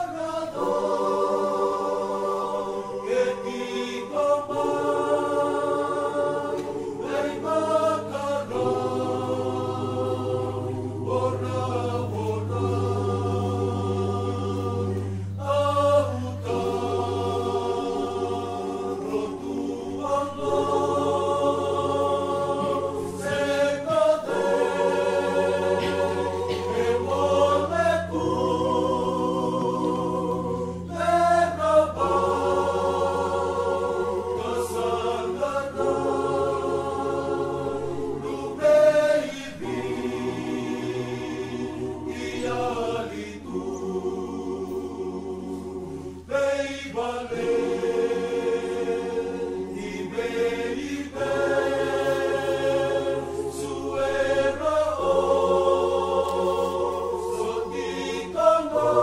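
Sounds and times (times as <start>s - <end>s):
choir singing a hymn: 0.0s - 59.0s
steady low hum: 0.0s - 59.0s.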